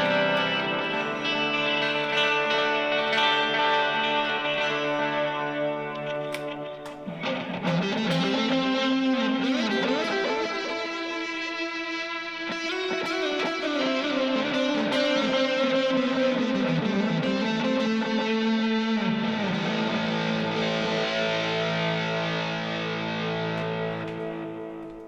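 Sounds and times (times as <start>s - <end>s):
electric guitar with delay: 0.0s - 25.0s.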